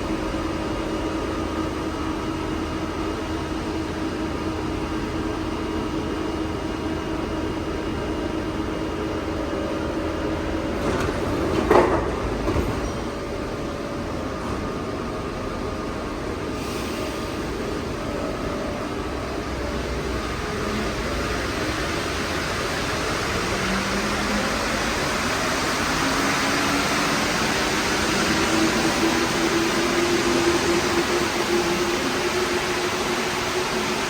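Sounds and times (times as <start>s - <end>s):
train running on viaduct: 0.0s - 34.0s.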